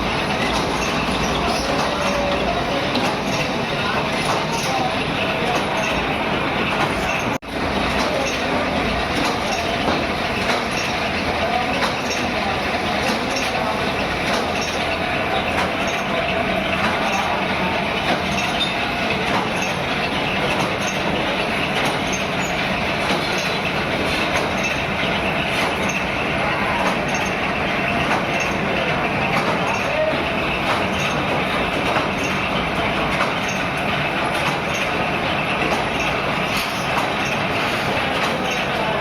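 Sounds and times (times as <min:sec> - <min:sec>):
factory machinery noise: 0:00.0 - 0:39.0.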